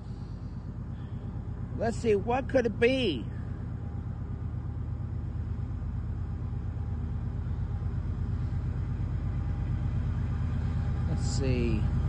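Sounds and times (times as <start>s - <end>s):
diesel locomotive engine humming: 0.0s - 12.0s.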